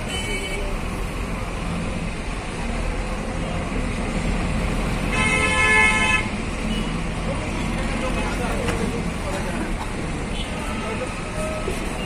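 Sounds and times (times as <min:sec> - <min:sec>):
street traffic engine rumble: 0:00.0 - 0:12.0.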